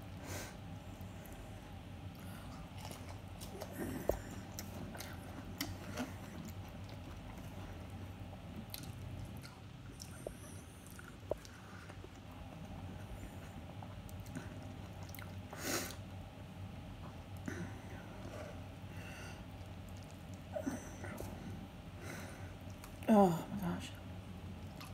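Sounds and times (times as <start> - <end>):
person chewing food: 0.5 - 16.2, 16.8 - 23.1, 24.4 - 24.9.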